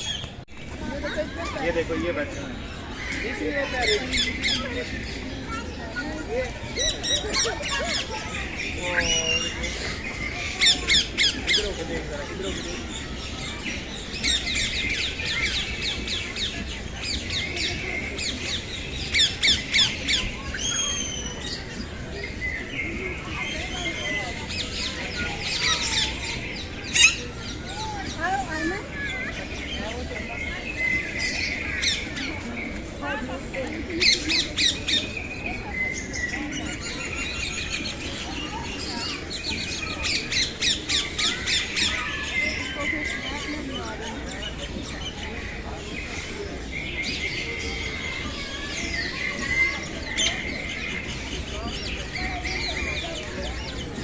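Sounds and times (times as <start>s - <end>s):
birds chirping and chattering: 0.0s - 54.0s.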